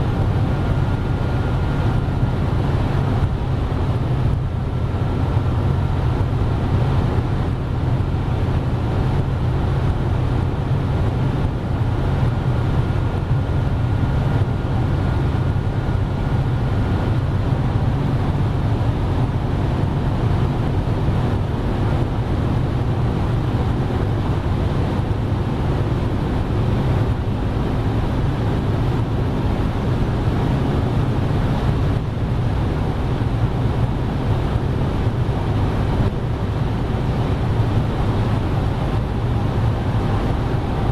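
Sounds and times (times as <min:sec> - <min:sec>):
car engine and road noise: 0:00.0 - 0:40.9
wind rushing over microphone: 0:00.0 - 0:40.9.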